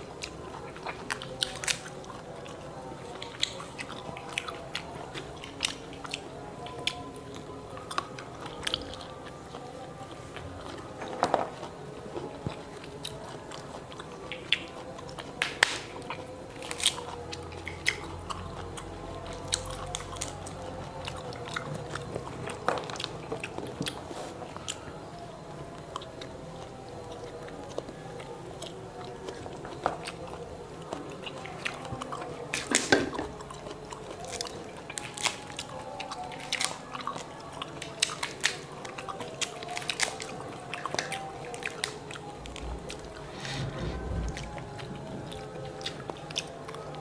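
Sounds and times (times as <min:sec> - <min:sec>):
chewing and biting: 0:00.0 - 0:47.0.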